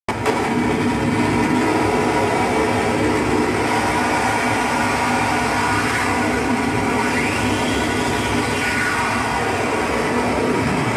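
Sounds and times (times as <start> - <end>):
droning electronic noise music: 0.1 - 10.9.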